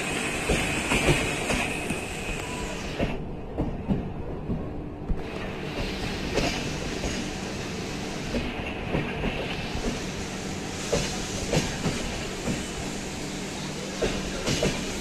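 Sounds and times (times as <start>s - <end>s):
train rumble: 0.0s - 15.0s
train wheels clicking over rail joints: 0.3s - 2.1s, 3.0s - 7.5s, 8.2s - 12.9s, 13.8s - 15.0s.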